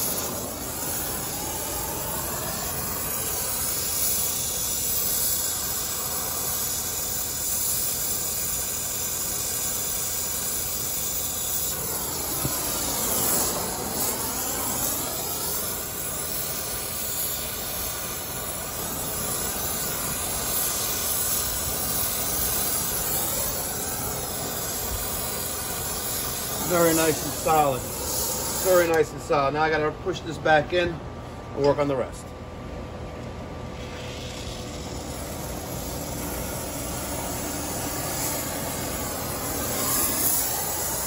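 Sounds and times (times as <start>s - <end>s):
brazing torch hissing: 0.0s - 29.9s, 33.8s - 41.0s.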